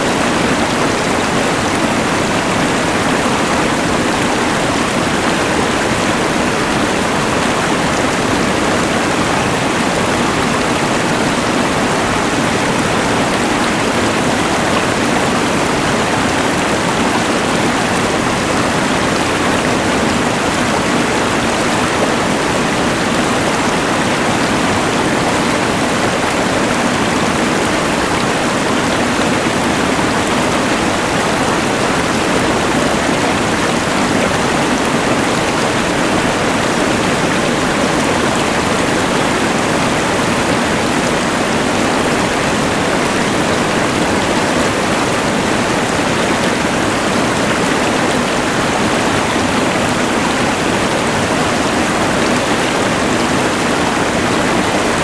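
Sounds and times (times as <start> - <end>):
rushing river: 0.0 - 55.0.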